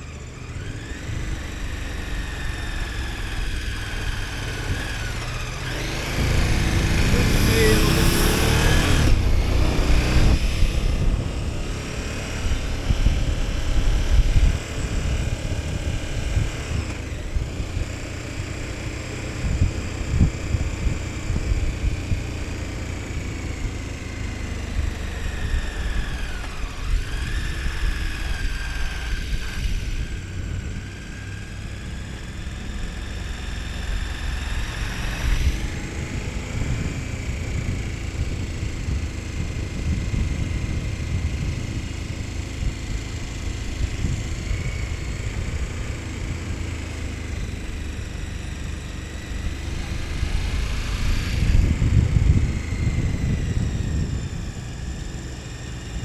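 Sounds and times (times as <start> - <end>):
motorcycle engine running: 0.0 - 56.0
wind and road rush: 0.0 - 56.0.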